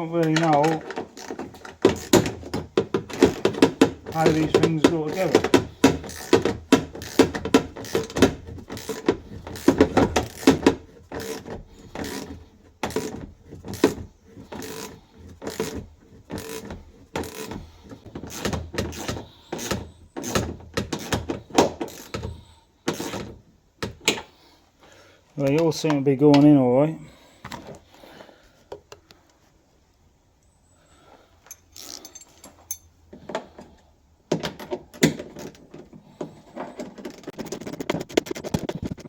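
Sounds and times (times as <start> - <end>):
hand tools clicking and knocking: 0.0 - 24.3, 31.4 - 39.0.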